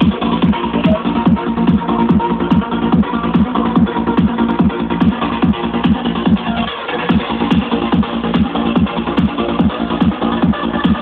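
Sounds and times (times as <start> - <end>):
kick drum: 0.0 - 6.4, 7.1 - 11.0.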